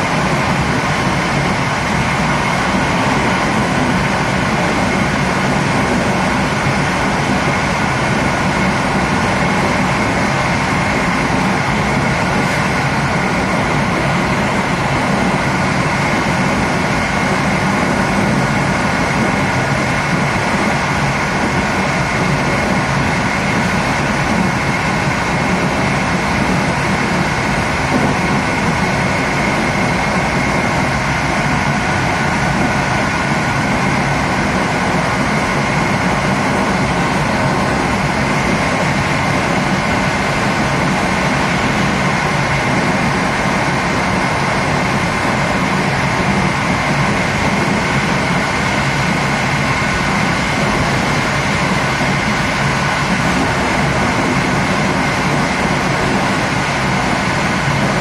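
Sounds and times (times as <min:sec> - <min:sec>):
high whine: 0:00.0 - 0:58.0
train wheels rolling on rails: 0:00.0 - 0:58.0.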